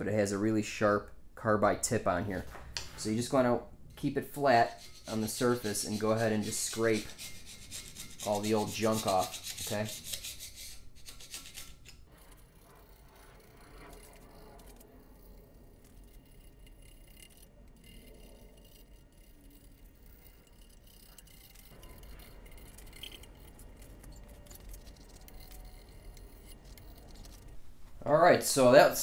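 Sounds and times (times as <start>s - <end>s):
light scratches and clinks: 2.3s - 28.6s
scraper scraping metal: 4.4s - 27.8s.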